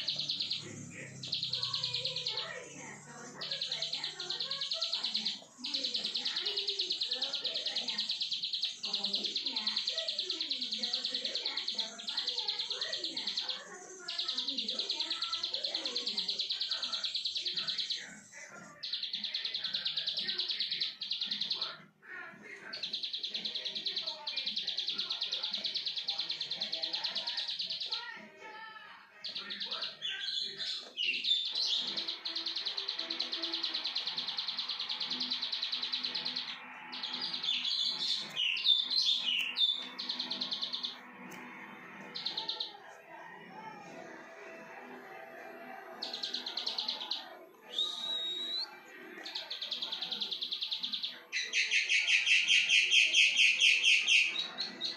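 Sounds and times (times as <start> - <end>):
bird singing buzzy trill: 0.0 - 21.7, 29.2 - 42.8, 45.6 - 54.9
faint voices: 0.0 - 54.9.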